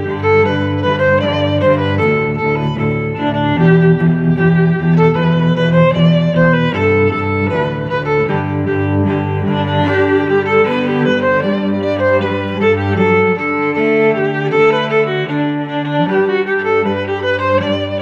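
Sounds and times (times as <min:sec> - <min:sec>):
instrumental music: 0:00.0 - 0:18.0.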